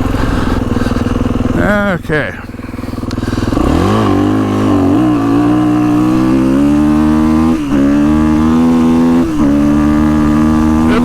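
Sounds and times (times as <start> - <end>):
dirt bike accelerating hard: 0.0 - 11.0.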